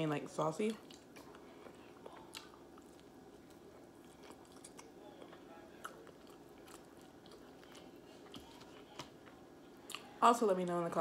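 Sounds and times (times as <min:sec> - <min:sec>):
chewing chicken wing: 0:00.7 - 0:10.2.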